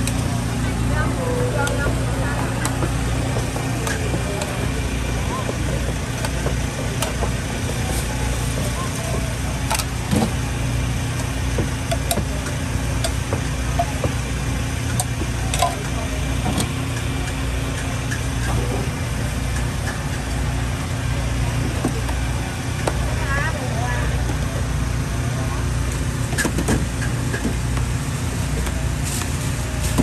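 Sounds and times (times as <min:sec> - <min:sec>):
low engine-like hum: 0:00.0 - 0:30.0.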